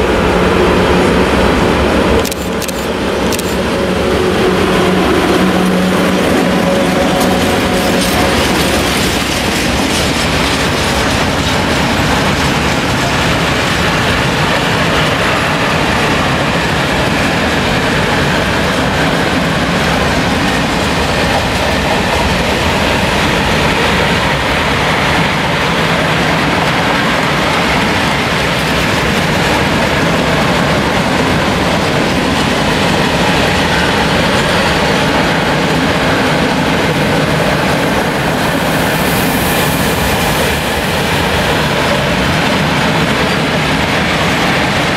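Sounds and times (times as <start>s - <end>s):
train wheels rolling on rails: 0.0s - 44.9s.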